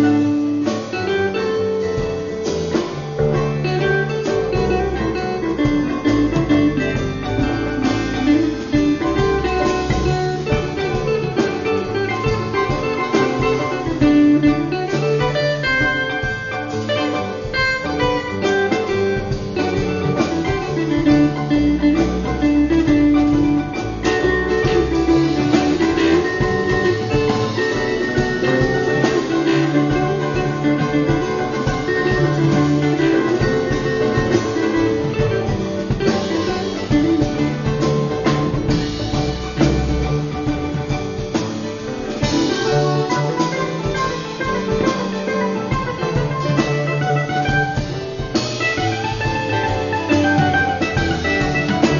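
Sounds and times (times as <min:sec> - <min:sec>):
drums and percussion: 0:00.0 - 0:51.9
guitar: 0:00.0 - 0:51.9.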